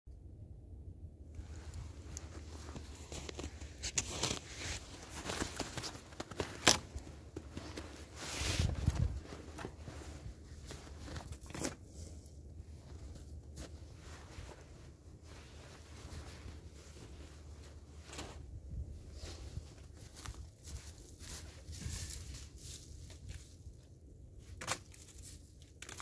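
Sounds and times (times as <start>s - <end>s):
rustling of clothing and twigs: 1.3s - 26.0s
footsteps crunching in snow: 1.4s - 23.6s.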